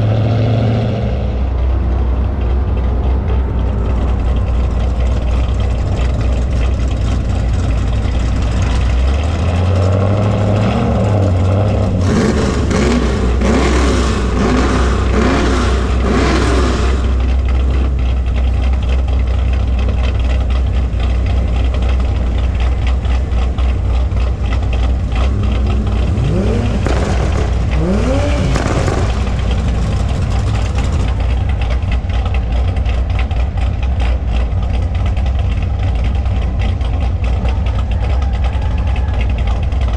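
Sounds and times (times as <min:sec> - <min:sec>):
car engine idling: 0:00.0 - 0:39.9
car engine revving: 0:00.0 - 0:39.9.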